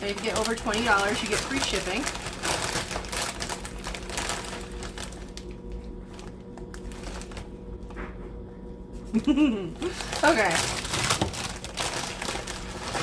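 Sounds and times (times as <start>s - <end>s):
plastic chip bags crinkling: 0.0s - 7.6s, 9.8s - 13.0s
steady low hum: 0.0s - 13.0s.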